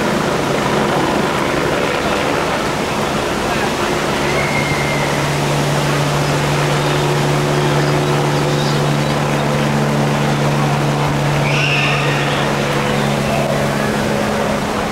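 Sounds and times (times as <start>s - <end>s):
helicopter droning: 0.0s - 14.9s
rushing water: 0.0s - 14.9s.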